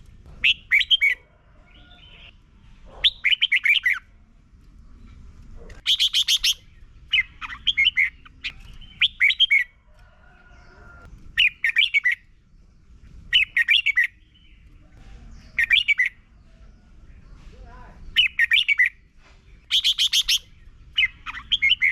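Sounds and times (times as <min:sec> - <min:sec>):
bulbul singing: 0:00.0 - 0:02.4, 0:03.0 - 0:04.2, 0:04.9 - 0:09.8, 0:10.4 - 0:21.9.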